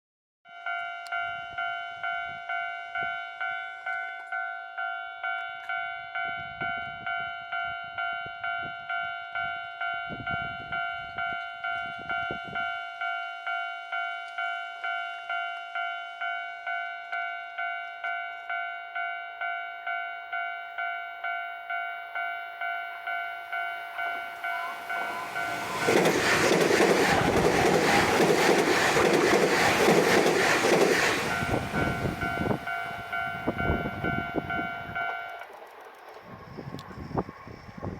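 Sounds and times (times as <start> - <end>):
level-crossing bell dinging: 0.5 - 26.9, 27.6 - 35.5.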